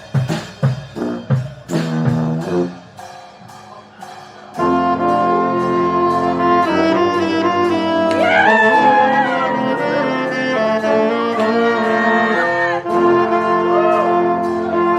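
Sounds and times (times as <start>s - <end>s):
brass band playing: 0.0s - 14.9s.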